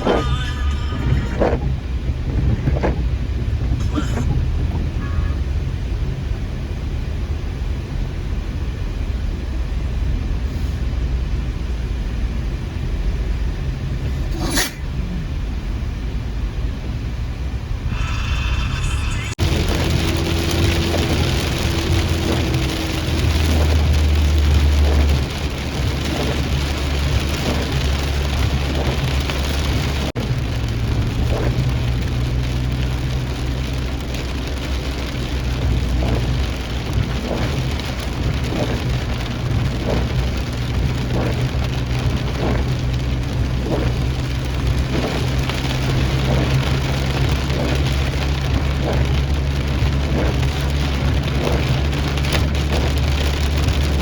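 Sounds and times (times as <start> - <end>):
steady rain falling: 0.0 - 14.2, 17.9 - 54.0
constant low hum: 0.0 - 54.0.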